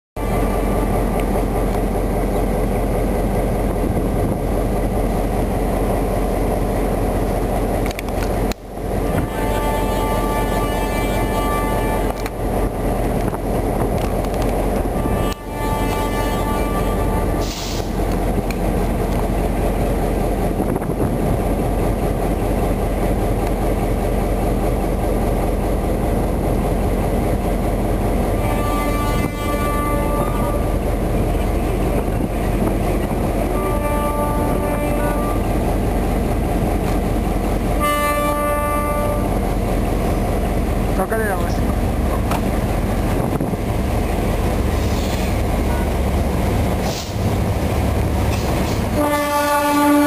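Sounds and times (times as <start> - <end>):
diesel locomotive engines running: 0.2 - 50.0.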